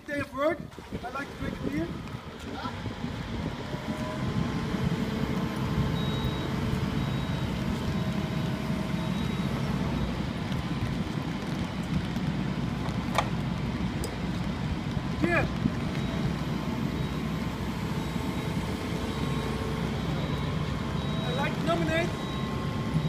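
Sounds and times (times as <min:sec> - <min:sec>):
diesel engine idling: 0:01.0 - 0:23.0.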